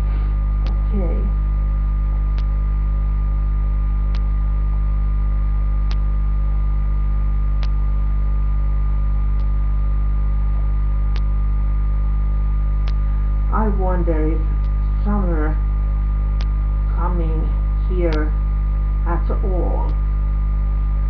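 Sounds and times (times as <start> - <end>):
electrical mains hum with whine: 0.0 - 21.0.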